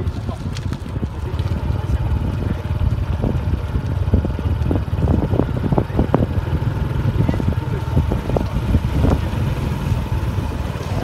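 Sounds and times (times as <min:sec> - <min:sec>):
bicycle rolling on concrete: 0:00.0 - 0:11.0
wind buffeting microphone: 0:00.0 - 0:11.0.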